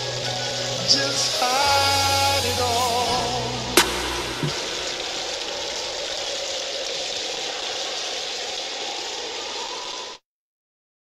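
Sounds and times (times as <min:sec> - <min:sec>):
steady rain: 0:00.0 - 0:10.2.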